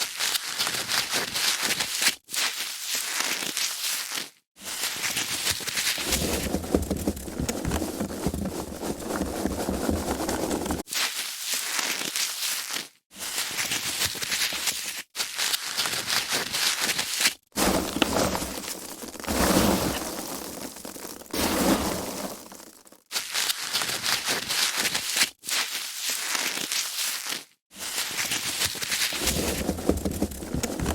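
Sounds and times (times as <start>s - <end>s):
foam packaging rubbed: 0.0s - 30.9s.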